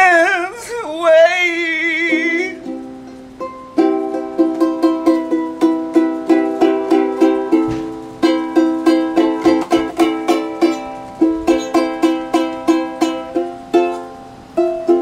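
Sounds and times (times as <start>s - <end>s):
ukulele chords strummed: 0.0s - 15.0s.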